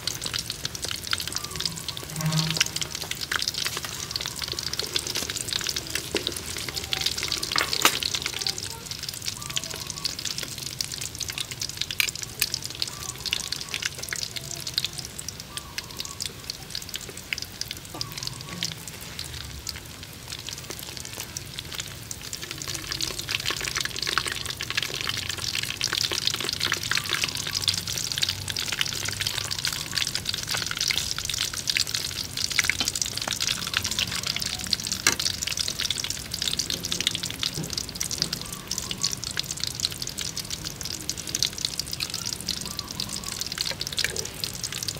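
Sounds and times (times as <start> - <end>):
eggs deep-frying in hot oil: 0.0 - 44.9.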